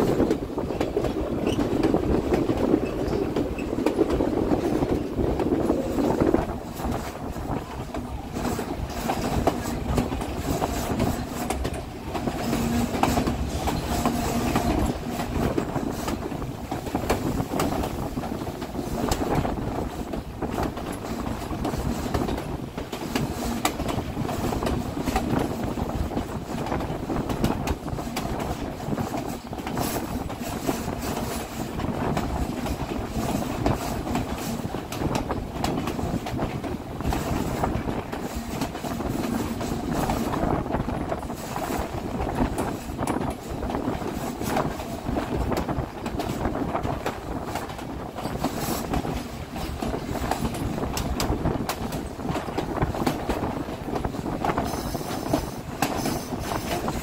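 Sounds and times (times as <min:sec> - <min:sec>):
train car rumbling on track: 0:00.0 - 0:57.0
wheels clacking over rail joints: 0:00.0 - 0:57.0.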